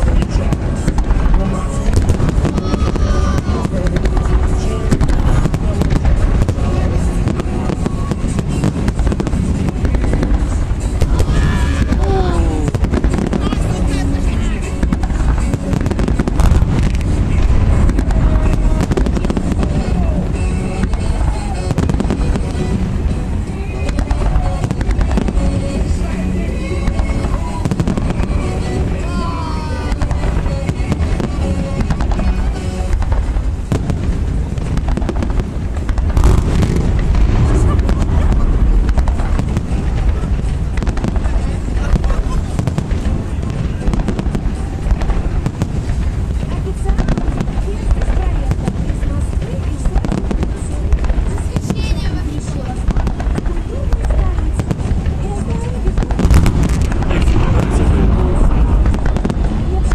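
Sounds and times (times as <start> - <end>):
continuous low rumble: 0.0 - 59.9
firework bangs and crackles: 0.0 - 59.9
music playing: 0.0 - 59.9.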